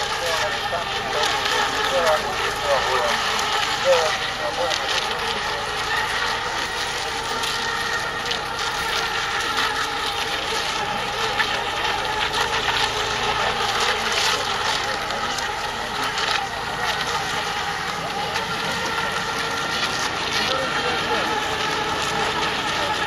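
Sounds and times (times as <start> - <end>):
rc boat motors whining: 0.0 - 23.0.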